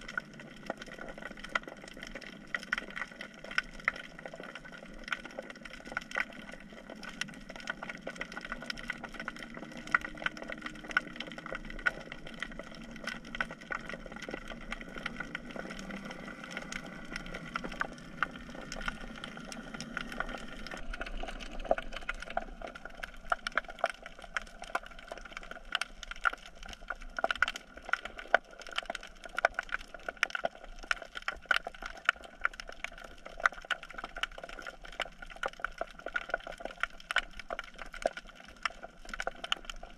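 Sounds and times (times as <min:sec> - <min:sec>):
snapping shrimp clicks underwater: 0:00.0 - 0:39.9.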